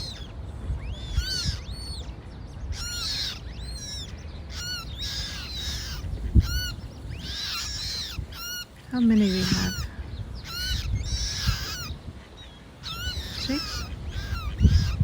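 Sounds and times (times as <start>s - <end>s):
young coots peeping: 0.0s - 15.0s.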